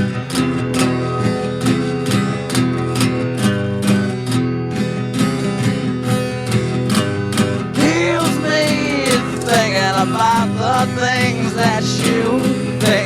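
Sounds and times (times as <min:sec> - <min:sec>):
guitar strummed rhythmically: 0:00.0 - 0:13.0.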